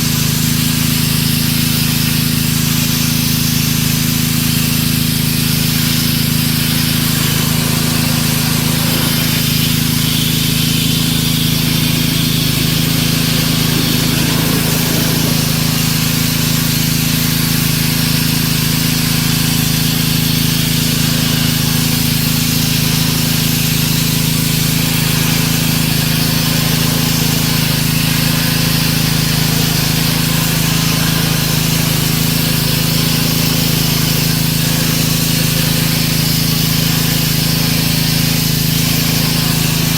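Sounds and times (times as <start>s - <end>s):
pressure washer motor hum: 0.0s - 39.9s
water spray hissing: 0.0s - 39.9s.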